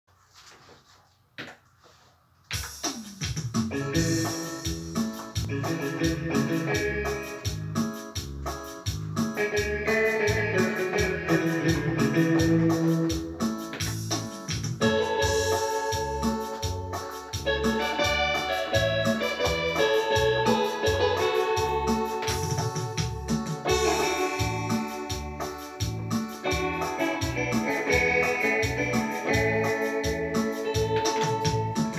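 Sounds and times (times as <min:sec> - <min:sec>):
bass and drum beat: 0:02.5 - 0:31.9
keyboard organ chords and melody: 0:02.6 - 0:31.9.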